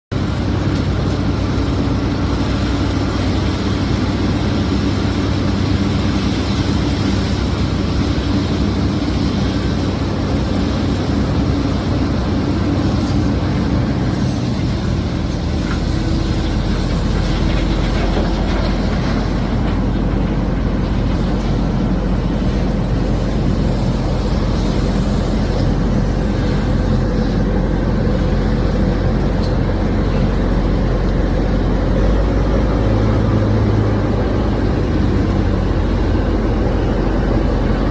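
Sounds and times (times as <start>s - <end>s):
heavy diesel machinery drone: 0.1s - 37.9s.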